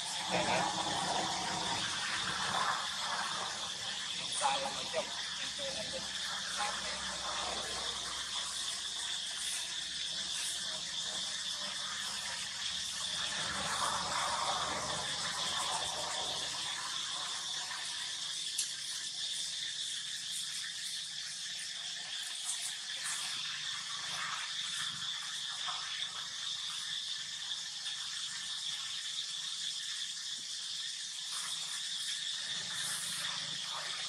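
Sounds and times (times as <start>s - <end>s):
high-pitched insect drone: 0.0s - 34.0s.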